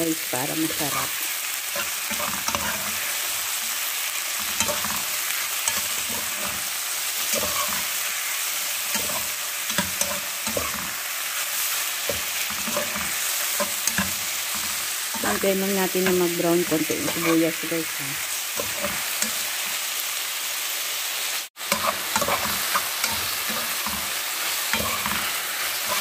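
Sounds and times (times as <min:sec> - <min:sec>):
onions sizzling in hot oil: 0:00.0 - 0:26.0
metal spoon scraping a pan: 0:00.6 - 0:17.7, 0:18.5 - 0:19.8, 0:21.6 - 0:26.0.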